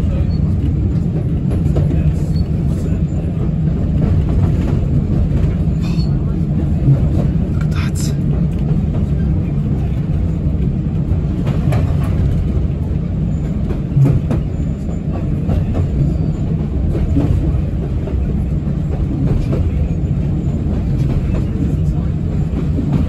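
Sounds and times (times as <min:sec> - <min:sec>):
train carriage low rumble: 0:00.0 - 0:23.0.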